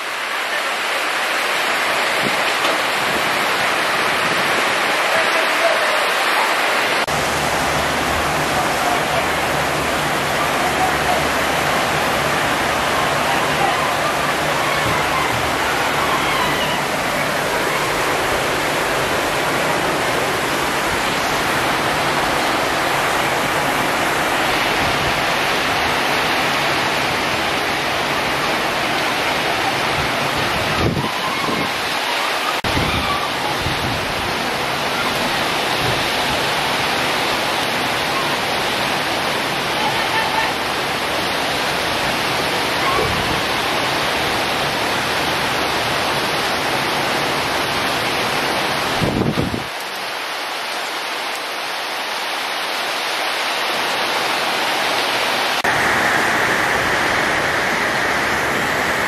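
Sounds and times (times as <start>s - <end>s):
heavy rain on tin roofs: 0.0s - 59.0s.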